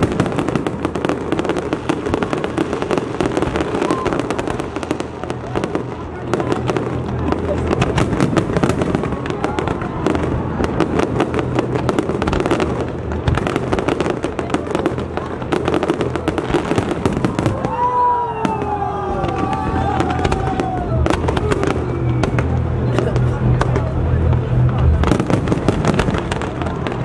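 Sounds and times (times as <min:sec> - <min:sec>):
fireworks crackling and popping: 0:00.0 - 0:27.0.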